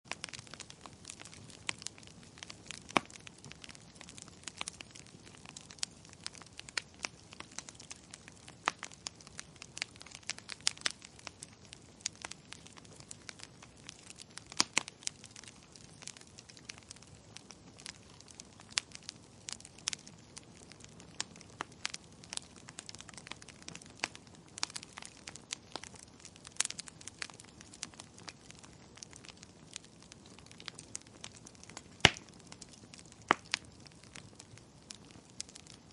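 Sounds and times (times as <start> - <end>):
burning wood crackling: 0.1 - 35.9
soft hiss of flames: 0.1 - 35.9.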